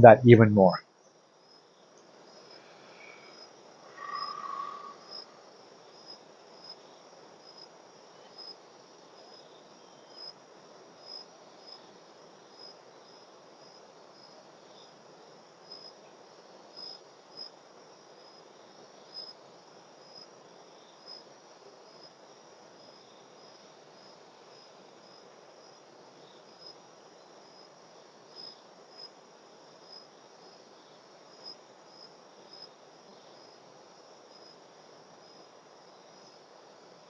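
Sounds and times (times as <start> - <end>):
insects chirping: 0.0 - 10.4, 11.0 - 37.0
background hiss: 0.0 - 37.0.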